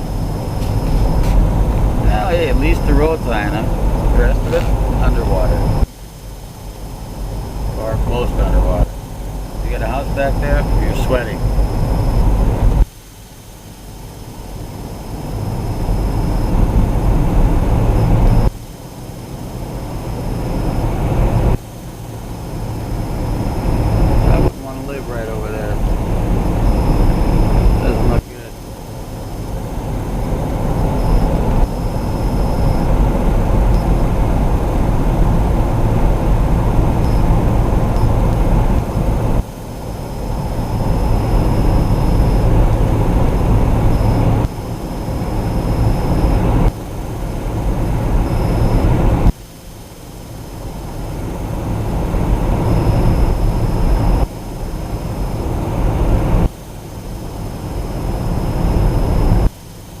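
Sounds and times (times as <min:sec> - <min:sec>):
car road and engine noise: 0:00.0 - 1:00.0.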